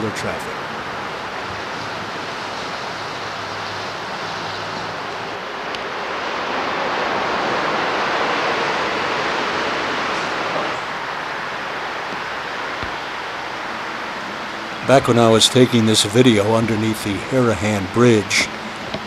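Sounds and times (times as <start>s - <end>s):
steady rushing outdoor noise: 0.0s - 19.0s.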